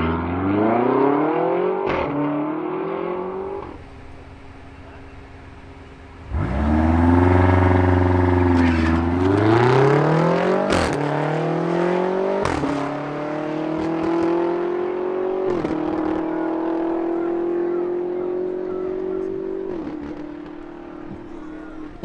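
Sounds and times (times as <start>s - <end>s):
car engine revving through gears: 0.0s - 22.0s.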